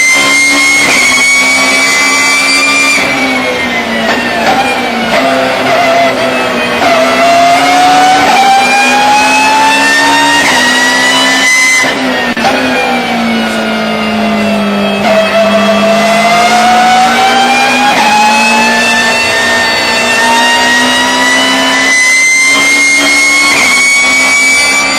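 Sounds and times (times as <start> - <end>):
race car engine accelerating: 0.0 - 24.9.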